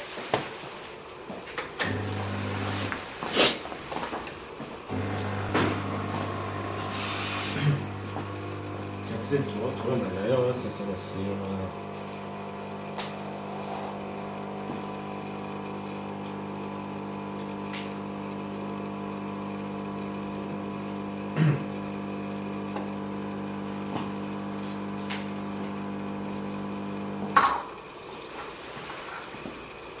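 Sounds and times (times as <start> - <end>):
espresso machine pump humming: 1.8 - 3.0, 4.8 - 30.0.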